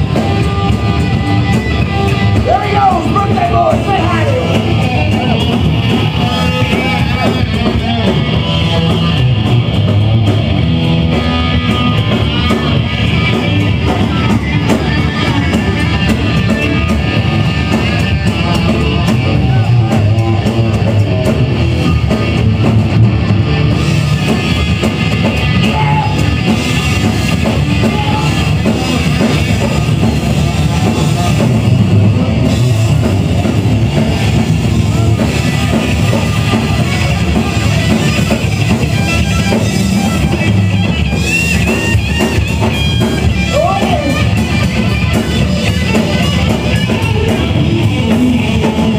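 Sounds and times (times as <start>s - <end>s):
rock band playing live: 0.0s - 48.9s.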